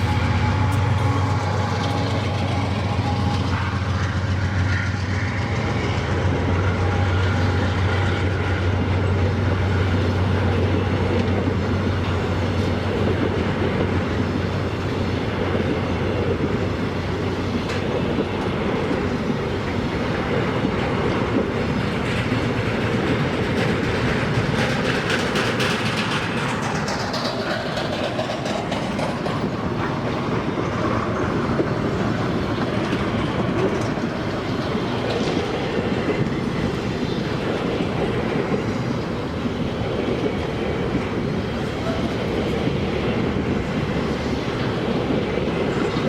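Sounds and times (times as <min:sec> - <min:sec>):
train cars clacking over rails: 0:00.0 - 0:46.0.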